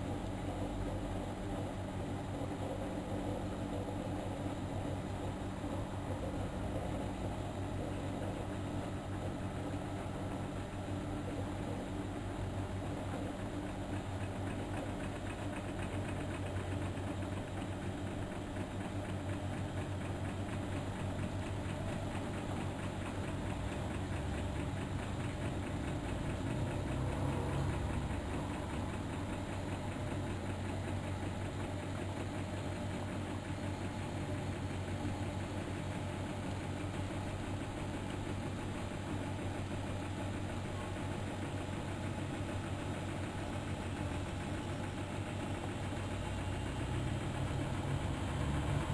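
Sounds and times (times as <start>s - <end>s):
fast rhythmic rattle: 0.0s - 48.5s
washing machine motor hum: 0.0s - 48.9s.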